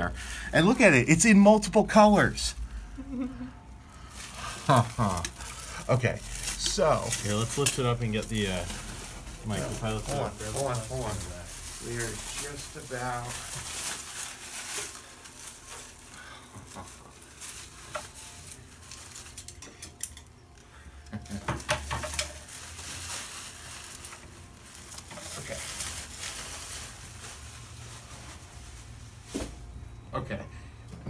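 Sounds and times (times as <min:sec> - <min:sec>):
plastic wrap rustling: 0:03.9 - 0:20.7, 0:21.4 - 0:29.8.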